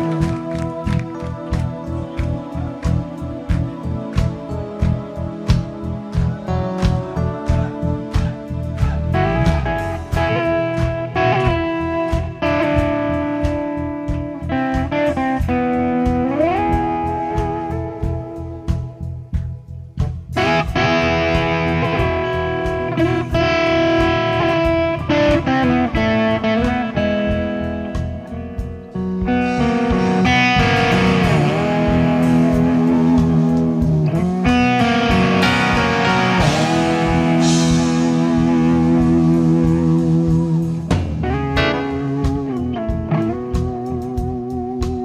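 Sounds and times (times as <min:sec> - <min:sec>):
electric guitar lead with pitch bends: 0:00.0 - 0:45.0
rock fusion band playing: 0:00.0 - 0:45.0.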